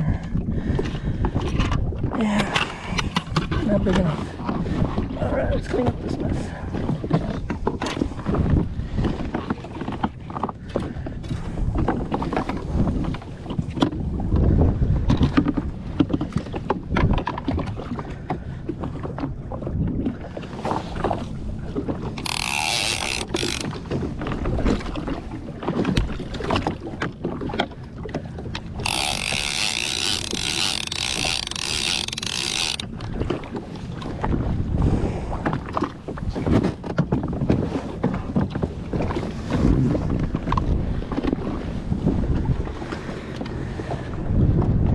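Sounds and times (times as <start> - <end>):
water slapping a hull: 0.0 - 44.9
wind buffeting microphone: 0.0 - 44.9.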